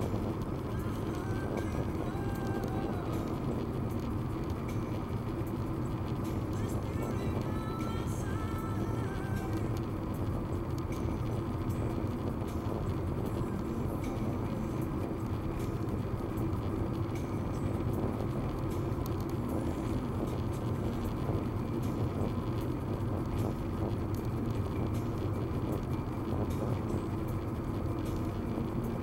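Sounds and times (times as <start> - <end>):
engine low hum: 0.0 - 29.0.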